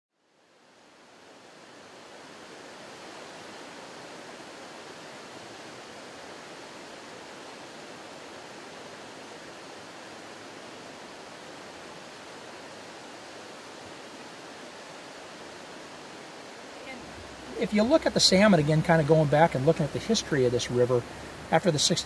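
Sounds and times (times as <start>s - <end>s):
river water rushing over rocks: 0.2s - 22.0s.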